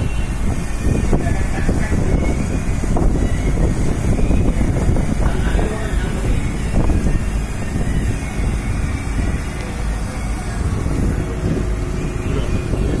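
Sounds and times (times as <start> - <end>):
boat engine running: 0.0 - 13.0
water noise: 0.0 - 13.0
wind buffeting microphone: 0.0 - 13.0.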